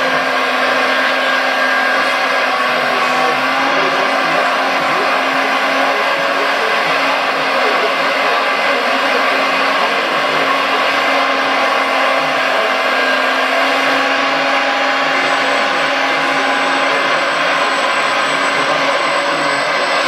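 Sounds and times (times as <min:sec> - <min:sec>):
toy excavator diesel engine sound: 0:00.0 - 0:20.0.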